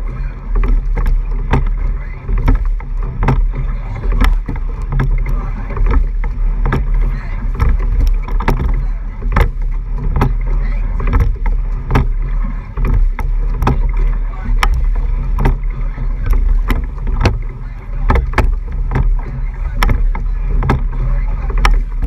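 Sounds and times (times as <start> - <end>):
oar knocks and splashes: 0.0 - 22.0
rushing water: 0.0 - 22.0
wind on microphone: 0.0 - 22.0.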